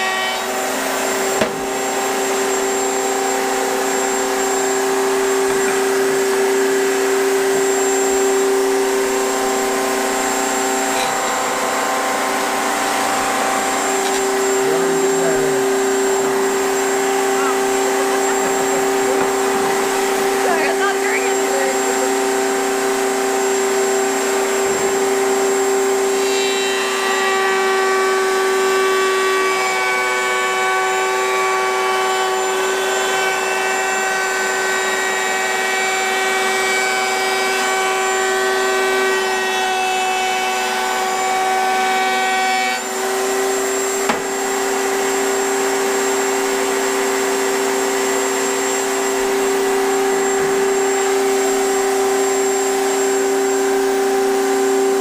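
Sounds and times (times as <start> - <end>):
router whining: 0.0 - 55.0.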